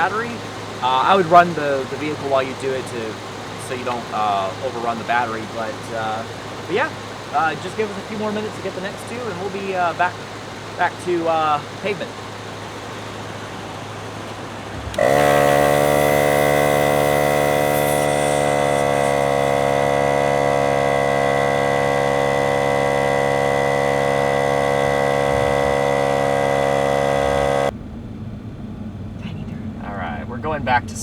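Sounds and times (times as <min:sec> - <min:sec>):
air compressor running: 0:00.0 - 0:27.8.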